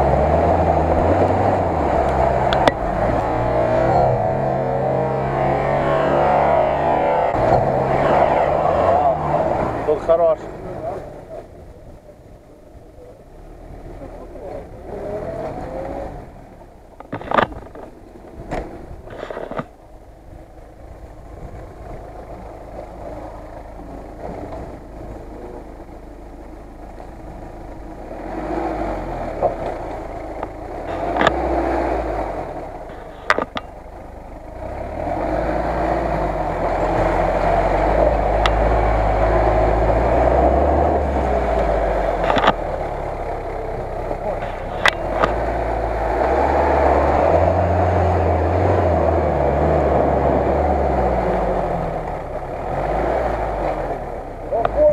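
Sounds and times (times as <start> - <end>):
off-road engine under load: 0.0 - 54.9.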